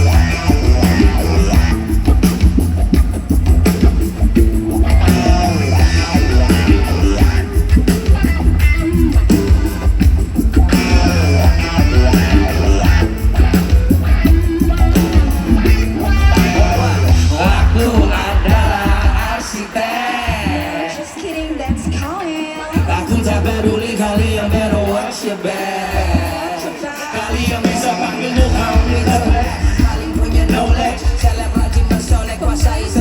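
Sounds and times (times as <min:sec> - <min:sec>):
live rock band playing: 0:00.0 - 0:33.0
voices singing or yelling: 0:00.0 - 0:33.0.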